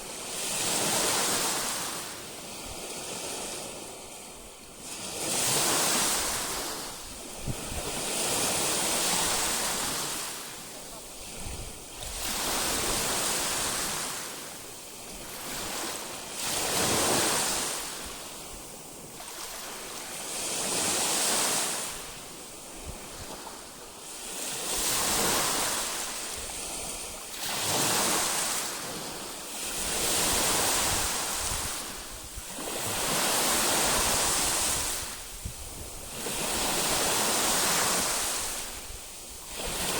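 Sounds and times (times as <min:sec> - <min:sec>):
sea waves breaking ashore: 0:00.0 - 0:39.9.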